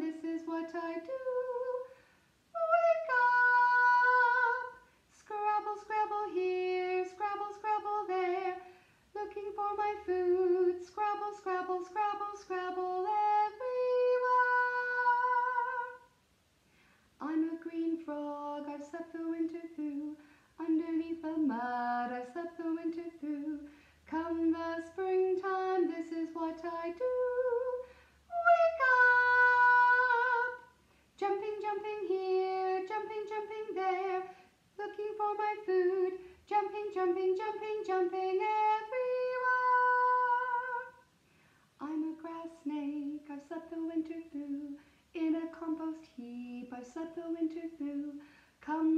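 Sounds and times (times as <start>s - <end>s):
woman singing unaccompanied: 0.0s - 16.2s, 17.2s - 41.1s, 41.8s - 48.9s.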